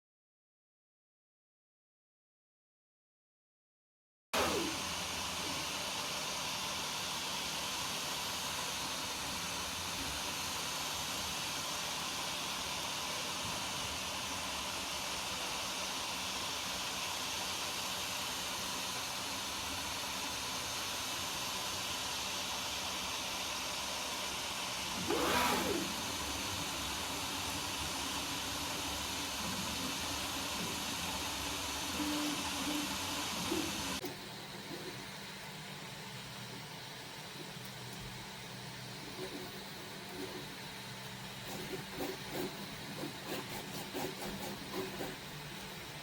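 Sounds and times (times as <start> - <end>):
printer cooling fans hissing: 4.4 - 46.0.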